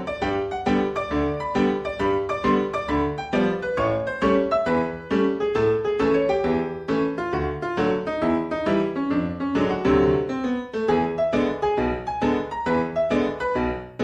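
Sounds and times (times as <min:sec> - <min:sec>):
lively piano music: 0:00.0 - 0:14.0.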